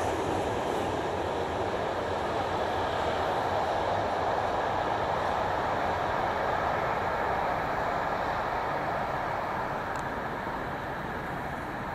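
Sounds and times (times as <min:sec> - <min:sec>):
freight train wheels rumbling: 0:00.0 - 0:11.9.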